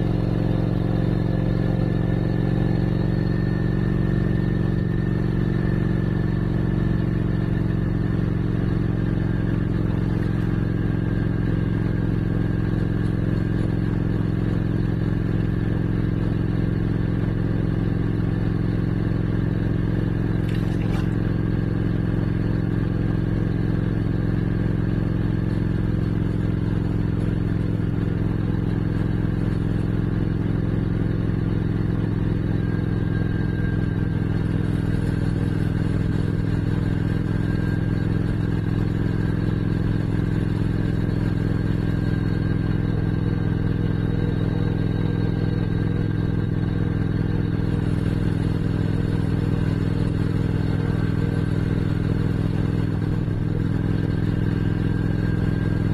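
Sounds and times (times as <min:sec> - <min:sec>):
motorcycle engine running steadily: 0:00.0 - 0:55.9.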